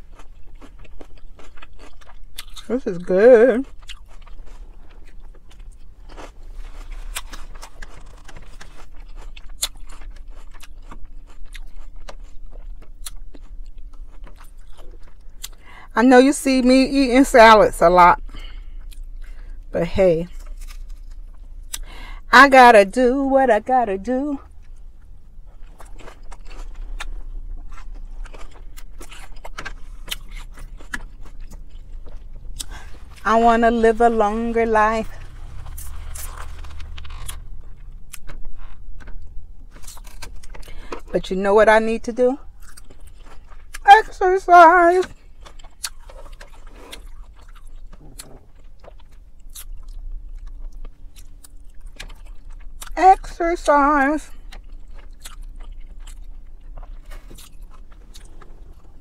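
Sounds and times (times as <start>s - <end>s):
chewing crisp lettuce: 0.0s - 15.8s, 18.2s - 22.2s, 24.4s - 41.1s, 42.4s - 59.0s
low steady hum: 0.0s - 59.0s.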